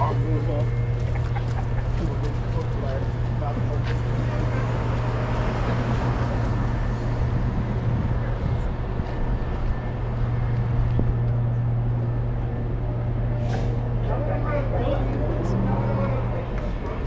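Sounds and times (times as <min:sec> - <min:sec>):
city street noise: 0:00.0 - 0:17.0
low engine hum: 0:00.0 - 0:17.0.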